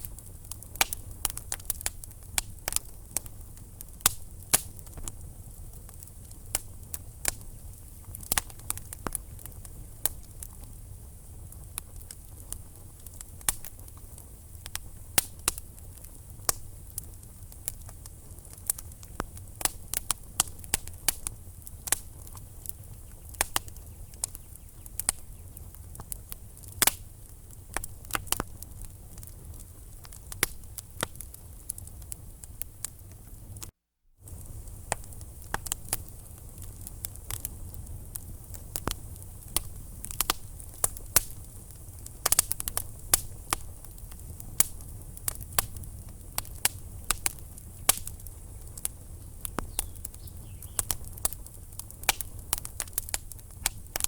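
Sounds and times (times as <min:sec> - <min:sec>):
logs crackling and popping: 0:00.0 - 0:54.0
low rumble of flame: 0:00.0 - 0:54.0.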